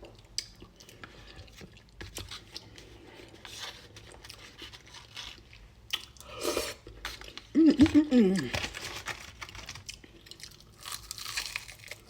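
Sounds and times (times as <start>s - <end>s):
crunching and chewing fried chicken: 0.0s - 12.0s.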